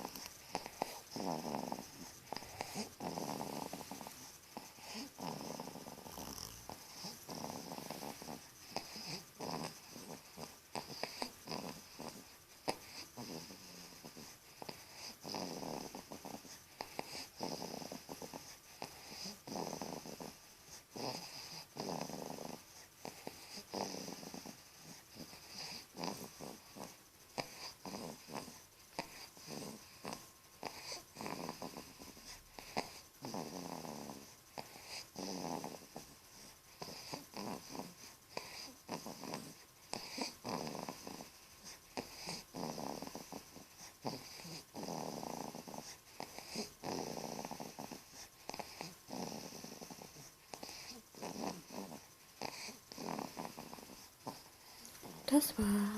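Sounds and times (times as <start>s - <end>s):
baby snoring: 0.0s - 55.9s.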